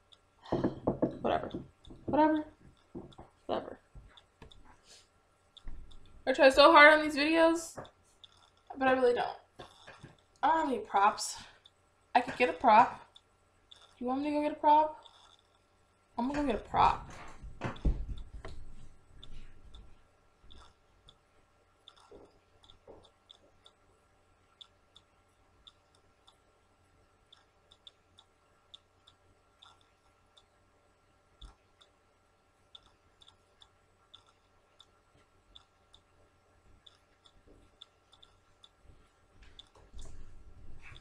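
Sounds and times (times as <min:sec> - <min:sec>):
faint clicks: 0:00.0 - 0:00.4, 0:01.7 - 0:06.3, 0:07.6 - 0:08.8, 0:13.0 - 0:14.1, 0:14.9 - 0:41.0
steady low hum: 0:00.0 - 0:41.0.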